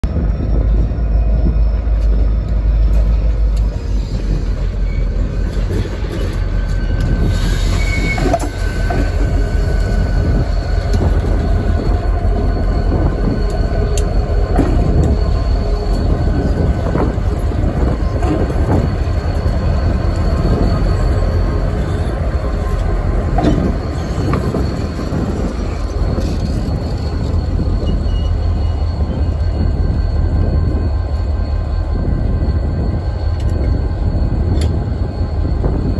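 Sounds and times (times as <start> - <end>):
diesel locomotives rumbling: 0.0 - 35.9
wheels rolling on rails: 0.2 - 31.4
faint high wheel squeal: 0.4 - 35.9.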